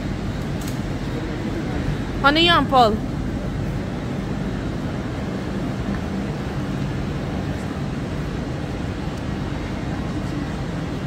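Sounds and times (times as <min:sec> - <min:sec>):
railway station rumble and hum: 0:00.0 - 0:11.0
trains idling: 0:00.0 - 0:11.0.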